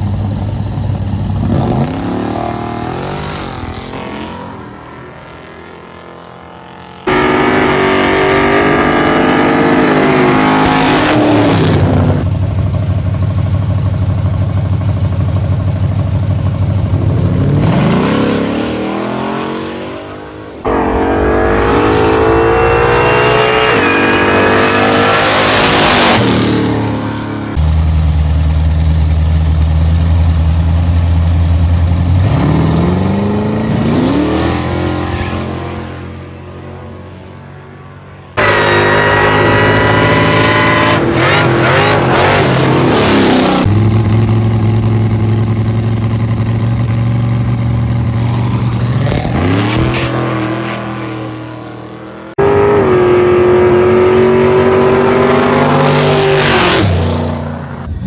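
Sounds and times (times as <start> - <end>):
drag racing car engine revving: 1.2 - 12.4, 16.8 - 36.4, 38.3 - 58.0.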